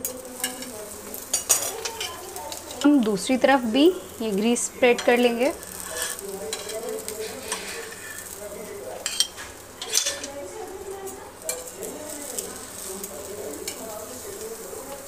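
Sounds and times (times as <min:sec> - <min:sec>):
flatbread sizzling on griddle: 0:00.0 - 0:15.0
metal utensils clinking on pan: 0:00.0 - 0:15.0.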